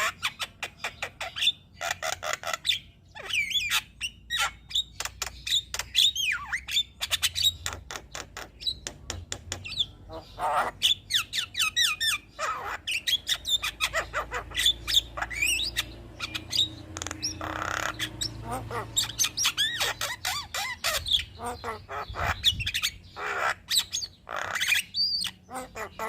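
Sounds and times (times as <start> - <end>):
myna bird singing: 0.0 - 26.0.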